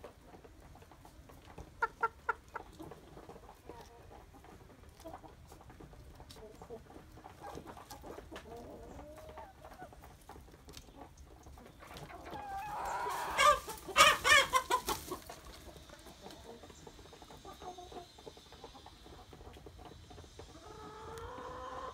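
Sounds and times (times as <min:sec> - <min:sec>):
chickens clucking: 0:00.0 - 0:21.9
rapid pitched chicken calls: 0:01.5 - 0:21.9.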